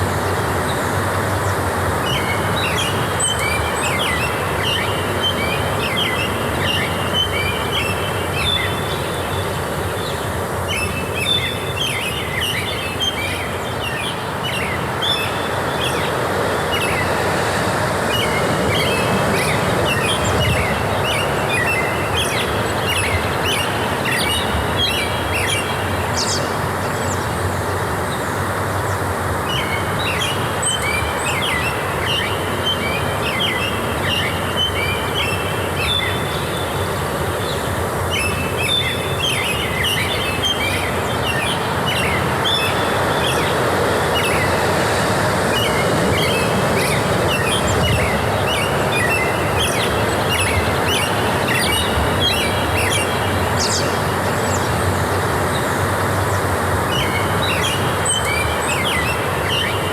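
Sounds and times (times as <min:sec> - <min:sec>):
small birds chirping: 0:00.0 - 0:59.9
steady rushing background noise: 0:00.0 - 0:59.9.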